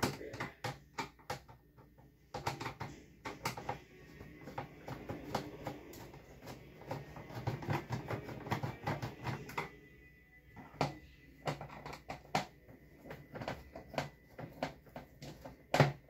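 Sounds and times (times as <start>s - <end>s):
hard plastic clicking and knocking: 0.0s - 9.8s, 10.5s - 16.0s.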